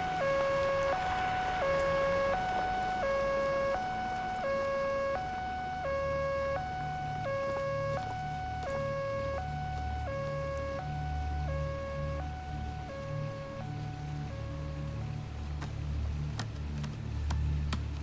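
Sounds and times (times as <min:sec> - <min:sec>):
ambulance siren two-tone wail: 0:00.0 - 0:15.3.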